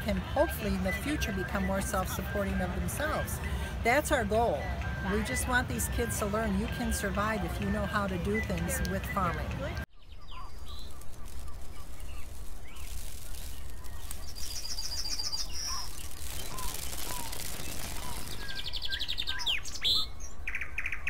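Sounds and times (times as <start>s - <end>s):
birds chirping and trilling: 0.4s - 21.0s.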